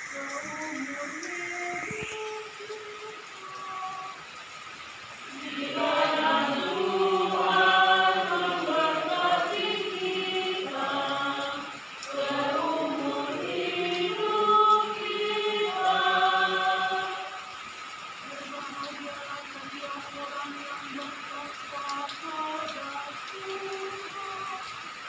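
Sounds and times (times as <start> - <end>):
woman singing a chant: 0.0 - 4.2, 5.3 - 17.6, 18.2 - 24.7.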